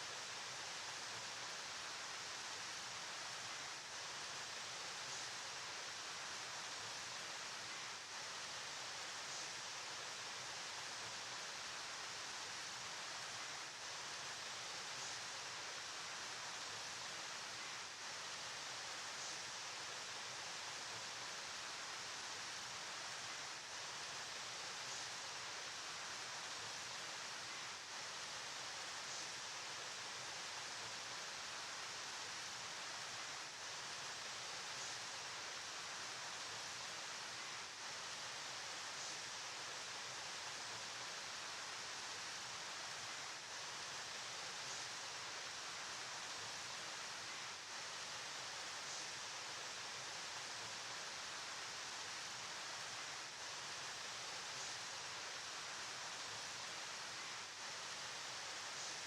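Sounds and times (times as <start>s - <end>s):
river flowing: 0.1s - 59.0s.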